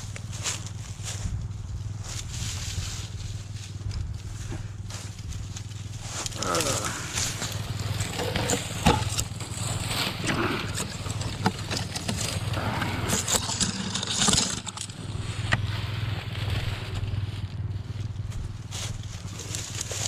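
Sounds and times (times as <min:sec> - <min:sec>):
dry brush crunching: 0:00.0 - 0:20.0
low drone: 0:00.0 - 0:20.0.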